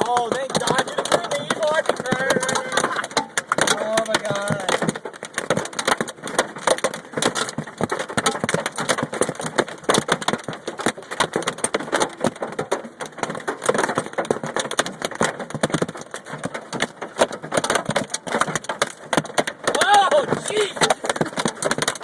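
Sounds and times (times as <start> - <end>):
hailstones pelting a car: 0.0 - 22.0.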